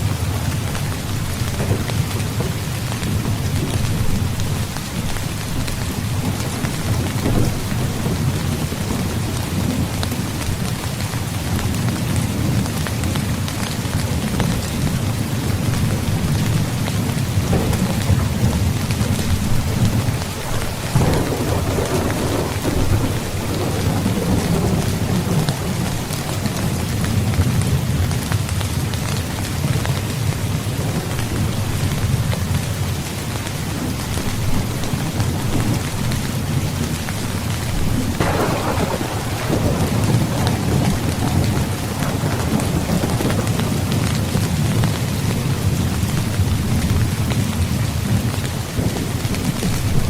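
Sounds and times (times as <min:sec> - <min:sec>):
heavy rain: 0:00.0 - 0:50.0
low rumble of thunder: 0:00.0 - 0:50.0.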